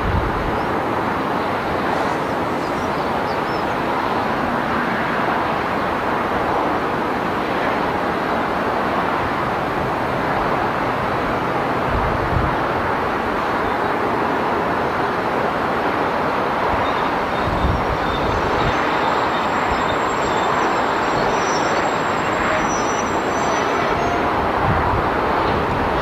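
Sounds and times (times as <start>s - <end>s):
distant train passing: 0.0s - 26.0s
wind gusts on microphone: 0.0s - 26.0s.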